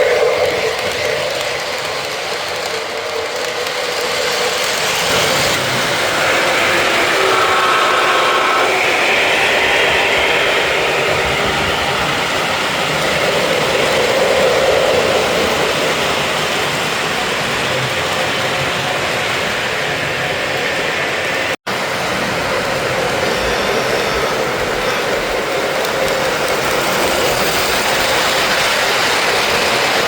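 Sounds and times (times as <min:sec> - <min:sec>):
model train wheels rolling on track: 0:00.0 - 0:30.0.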